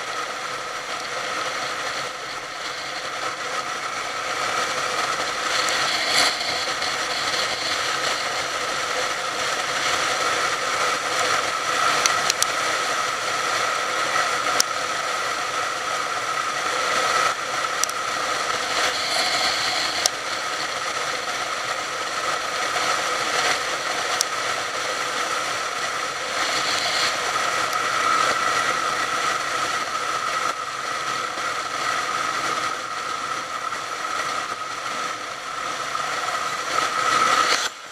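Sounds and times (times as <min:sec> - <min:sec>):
motorcycle engine drone: 0:00.0 - 0:37.9.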